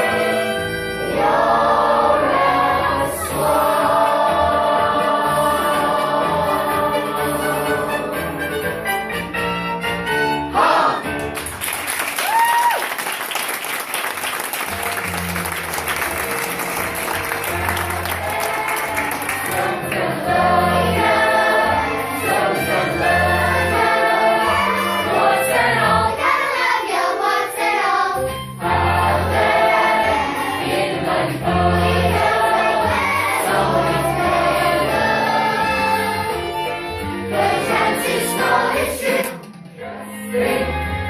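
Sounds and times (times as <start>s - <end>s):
instrumental accompaniment with bass: 0.0s - 11.7s, 14.7s - 26.4s, 28.2s - 41.0s.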